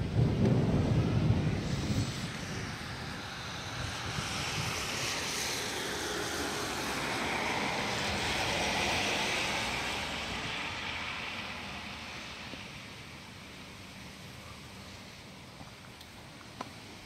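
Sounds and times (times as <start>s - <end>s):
car tyres hissing on wet road: 0.1s - 17.0s.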